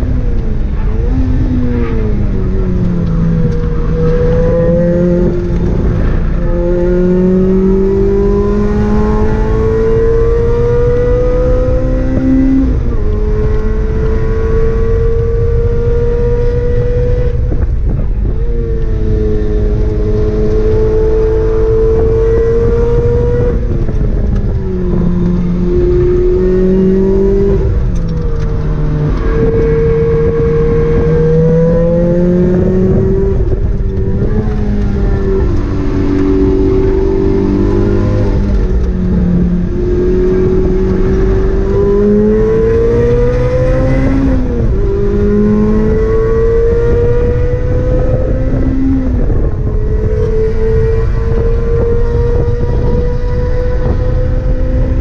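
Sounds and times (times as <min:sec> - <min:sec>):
car engine revving: 0:00.0 - 0:55.0
road and tyre noise: 0:00.0 - 0:55.0.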